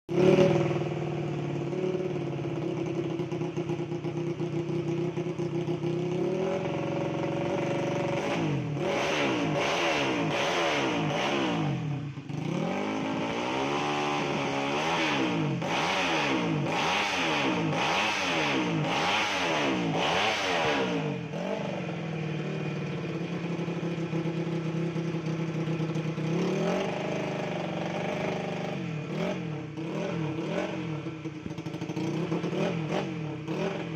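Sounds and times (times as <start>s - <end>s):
scooter engine idling and revving: 0.1s - 33.9s.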